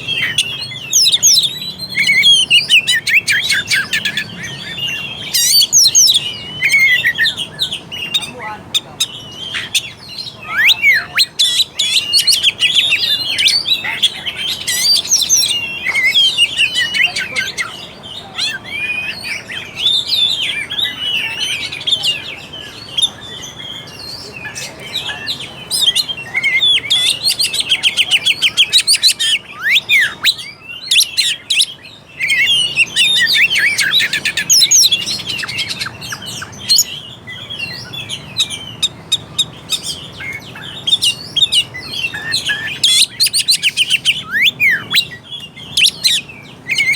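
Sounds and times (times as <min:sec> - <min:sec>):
songbird whistling and chirping: 0:00.0 - 0:46.9.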